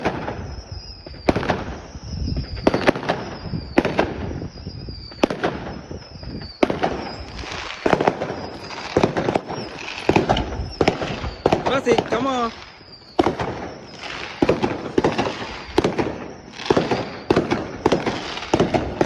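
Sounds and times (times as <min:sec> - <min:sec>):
firework whistle falling in pitch: 0:00.0 - 0:19.0
fireworks banging: 0:00.0 - 0:19.0.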